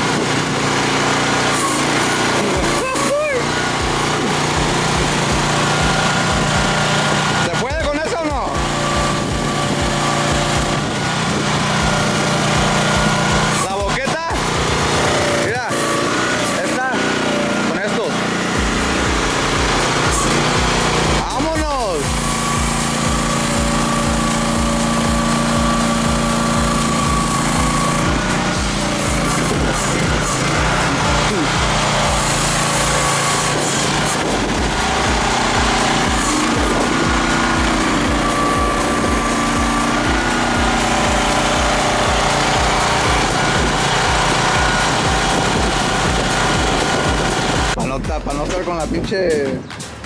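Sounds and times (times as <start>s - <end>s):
low pulse: 0.0s - 47.9s
high hum: 0.0s - 48.1s
mini excavator engine running: 0.0s - 48.6s.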